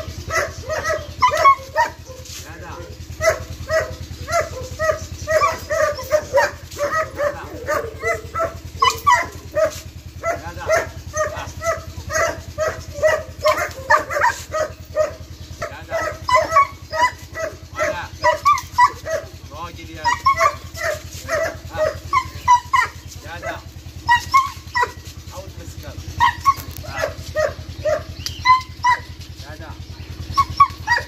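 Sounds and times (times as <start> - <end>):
dog barking: 0.0 - 31.0.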